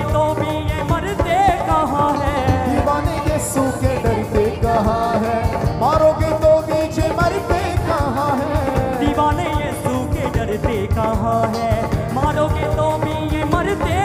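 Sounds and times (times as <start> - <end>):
live band playing: 0.0 - 14.0
sliding melody line: 0.0 - 14.0.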